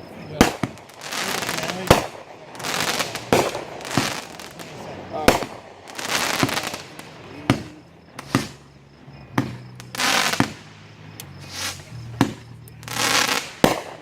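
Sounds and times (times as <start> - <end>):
crackling firework bursts: 0.0 - 14.0
firework bangs: 0.0 - 14.0.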